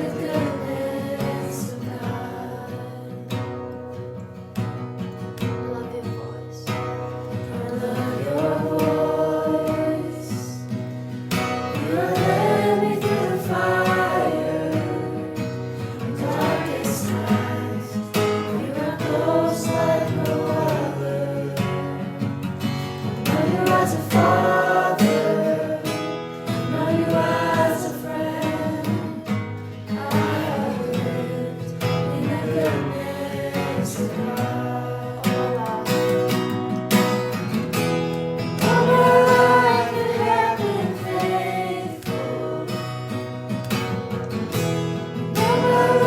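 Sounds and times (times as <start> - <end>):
group singing a worship song: 0.0 - 4.0, 5.8 - 43.8, 44.7 - 46.0
guitar accompaniment: 0.0 - 46.0.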